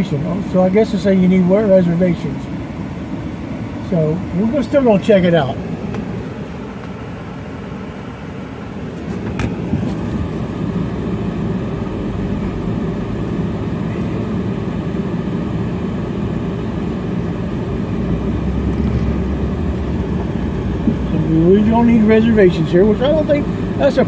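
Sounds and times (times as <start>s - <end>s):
van engine and road noise: 0.0s - 24.0s.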